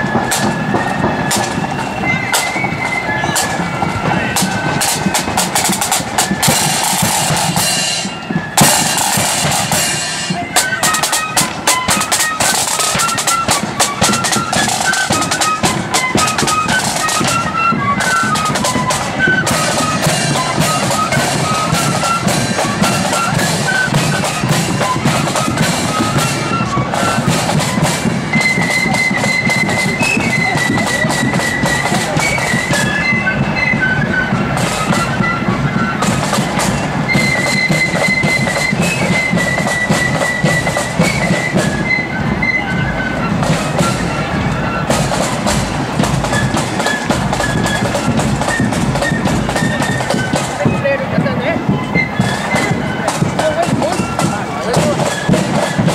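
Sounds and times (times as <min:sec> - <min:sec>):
bass drum and side drums: 0:00.0 - 0:33.6, 0:34.3 - 0:55.9
flute melody: 0:00.0 - 0:55.9.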